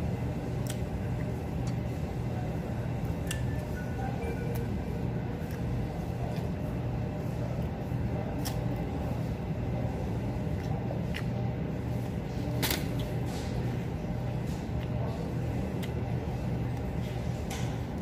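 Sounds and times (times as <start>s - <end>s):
low ventilation hum: 0.0s - 18.0s.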